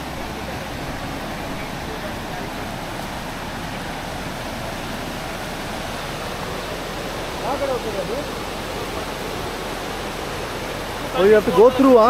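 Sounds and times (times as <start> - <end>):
water rushing down waterfall: 0.0 - 12.0.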